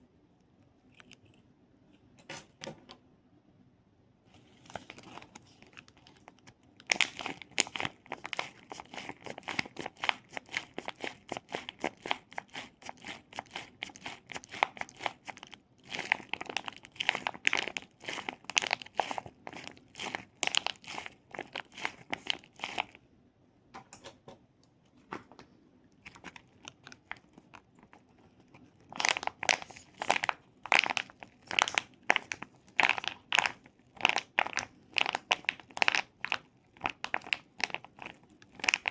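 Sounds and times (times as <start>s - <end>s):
material crinkling and crackling: 4.3s - 23.0s, 25.0s - 38.9s.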